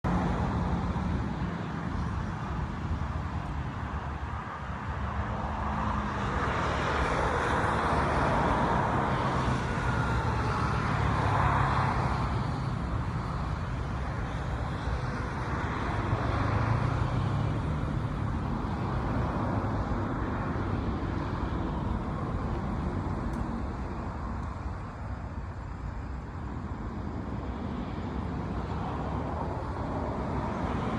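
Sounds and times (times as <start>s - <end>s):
passing road traffic: 0.0s - 30.9s.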